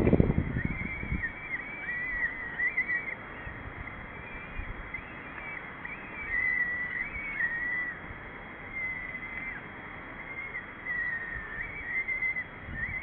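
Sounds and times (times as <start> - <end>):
falcons calling: 0.0 - 13.0
steady background hiss: 0.0 - 13.0.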